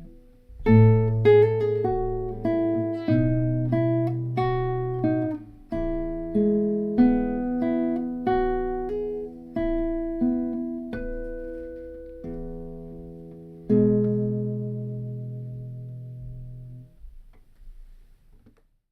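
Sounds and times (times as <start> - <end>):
solo guitar picked melody: 0.0 - 17.5.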